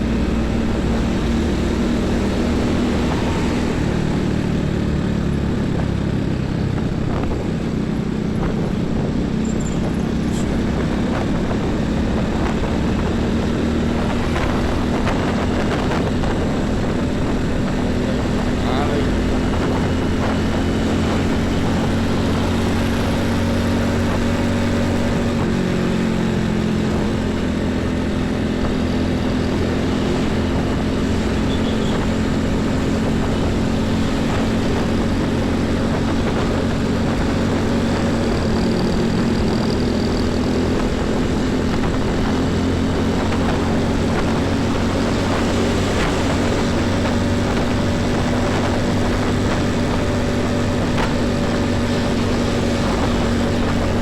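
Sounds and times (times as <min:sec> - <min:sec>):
diesel truck engine running: 0:00.0 - 0:54.0
highway traffic rushing: 0:00.0 - 0:54.0.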